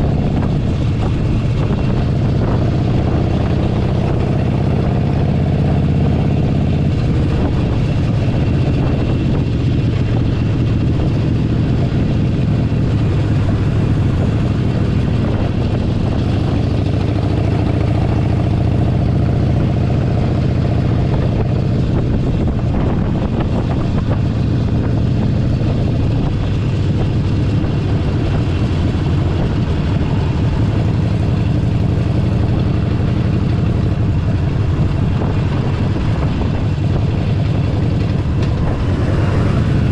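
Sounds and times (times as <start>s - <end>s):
motorcycle engine humming: 0.0s - 39.9s
road and wind noise: 0.0s - 39.9s.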